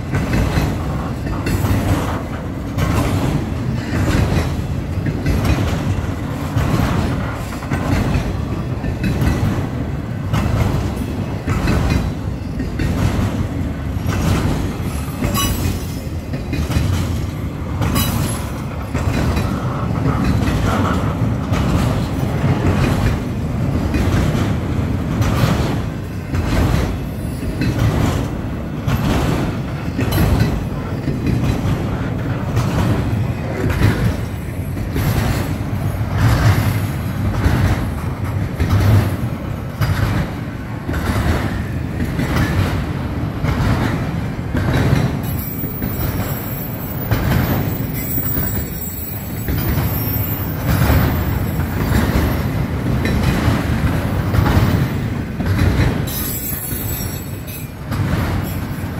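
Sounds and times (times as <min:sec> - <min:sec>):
train wheels rumbling on rails: 0:00.0 - 0:58.9
wheels clacking over rail joints: 0:00.0 - 0:58.9.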